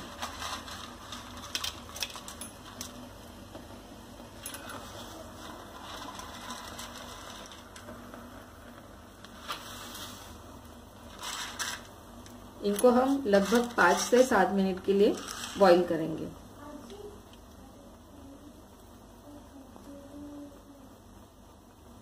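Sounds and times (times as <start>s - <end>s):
water heating in pot hiss: 0.0s - 22.0s.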